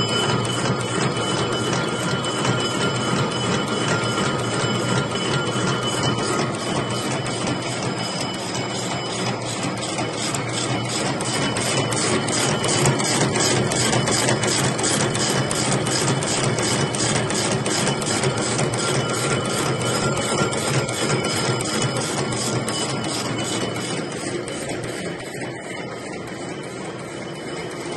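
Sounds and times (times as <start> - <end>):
wire machine clattering: 0.0 - 27.9.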